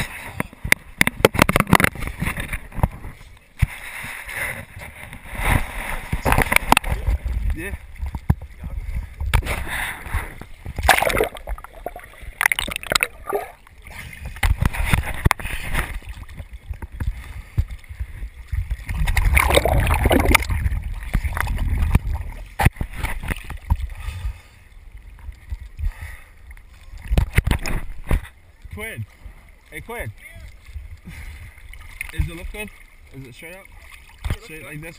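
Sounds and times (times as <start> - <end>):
water sloshing and splashing: 0.0 - 34.9.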